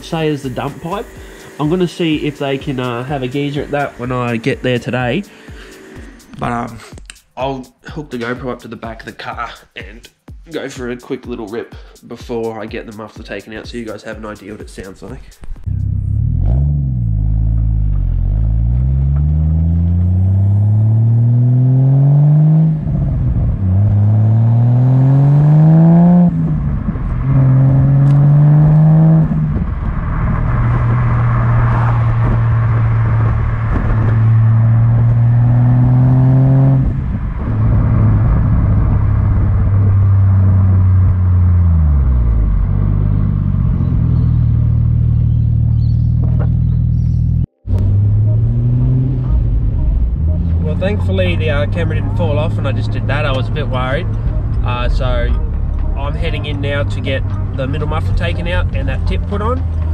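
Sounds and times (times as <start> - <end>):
turbocharged car engine accelerating: 0.0 - 6.9, 15.6 - 59.9.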